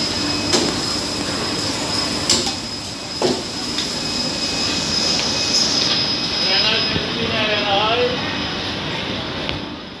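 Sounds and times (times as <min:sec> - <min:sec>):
thin high whine: 0:00.0 - 0:10.0.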